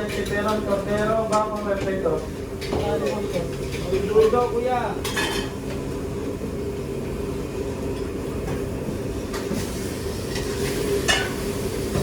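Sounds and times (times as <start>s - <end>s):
kitchen ventilation fan humming: 0.0s - 12.0s.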